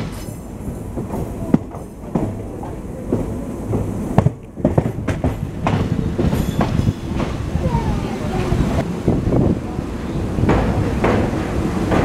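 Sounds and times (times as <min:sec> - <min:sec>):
wheels clacking over rail joints: 0:00.0 - 0:08.8, 0:10.1 - 0:12.0
train wheels rumbling on rail: 0:00.0 - 0:12.0.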